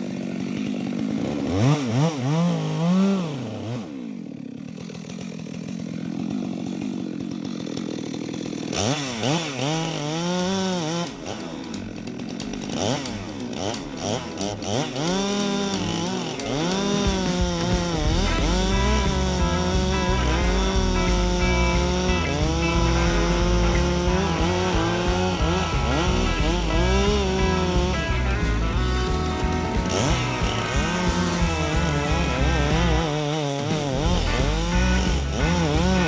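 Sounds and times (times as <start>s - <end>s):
chainsaw revving: 0.0s - 36.0s.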